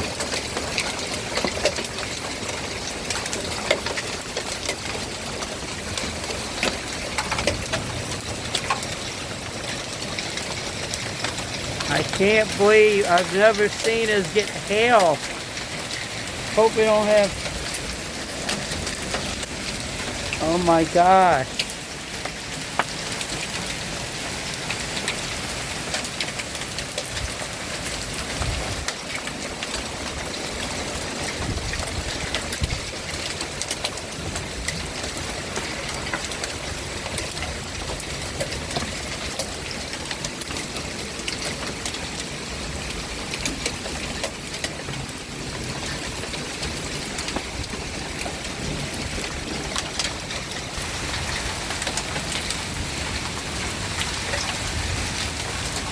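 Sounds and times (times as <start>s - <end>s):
hail clattering: 0.0s - 55.9s
rain falling: 0.0s - 55.9s.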